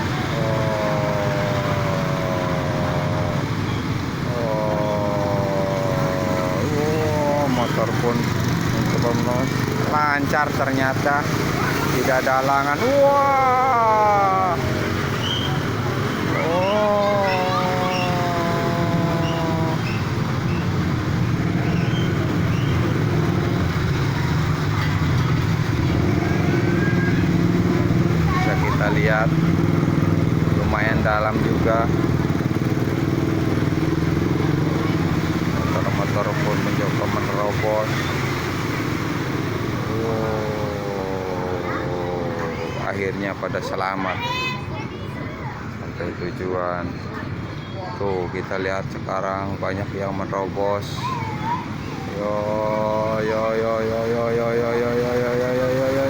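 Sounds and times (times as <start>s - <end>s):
hiss of rain and floodwater: 0.0s - 42.9s, 52.0s - 56.0s
small motorcycle engines: 0.0s - 43.4s, 49.8s - 56.0s.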